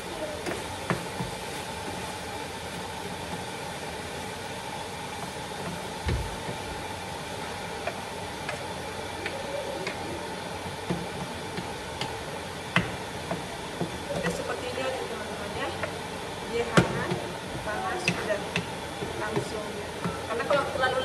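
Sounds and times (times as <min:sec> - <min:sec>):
food frying in butter: 0:00.0 - 0:21.0.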